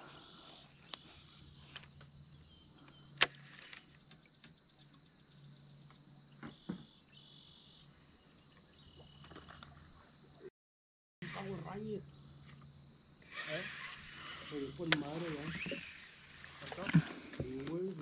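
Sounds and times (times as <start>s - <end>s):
high-pitched insect drone: 0.0s - 10.5s, 11.2s - 18.0s.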